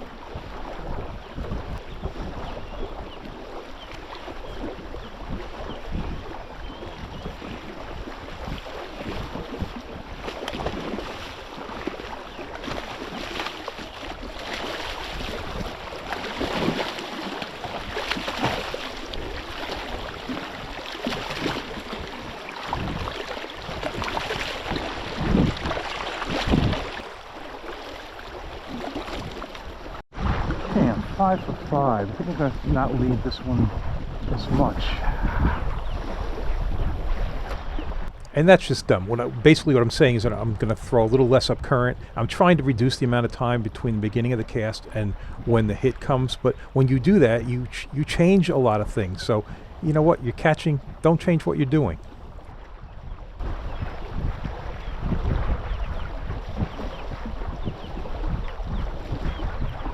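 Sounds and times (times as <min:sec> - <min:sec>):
water lapping against boat: 0:00.0 - 0:59.9
wind buffeting microphone: 0:00.0 - 0:59.9.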